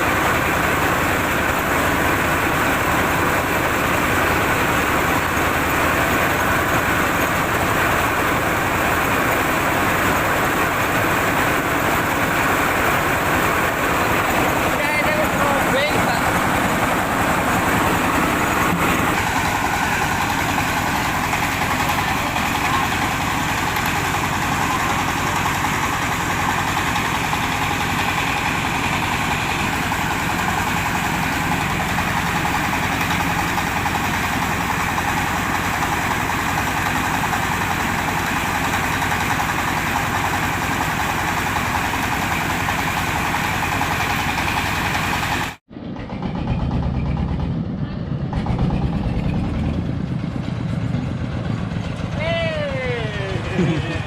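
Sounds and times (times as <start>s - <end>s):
diesel engine and milling machinery: 0.0s - 54.0s.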